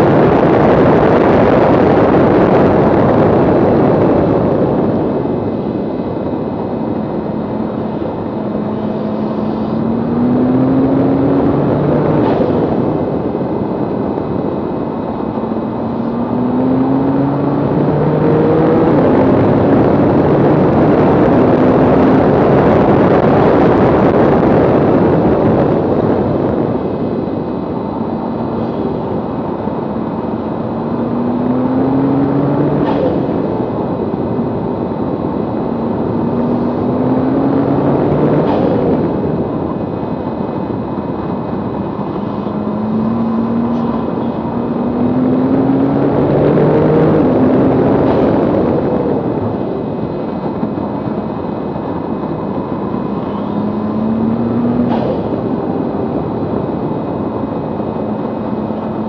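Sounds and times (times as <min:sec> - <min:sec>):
car engine at full throttle: 0:00.0 - 0:59.0
wind and tyre noise: 0:00.0 - 0:59.0.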